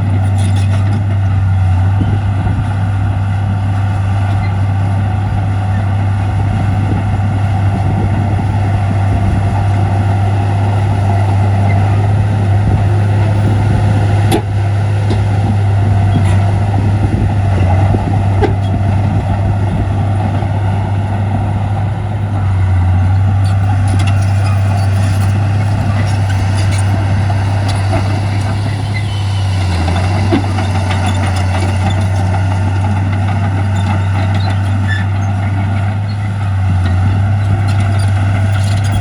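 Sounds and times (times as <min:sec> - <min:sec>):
diesel machinery engine hum: 0:00.0 - 0:39.0.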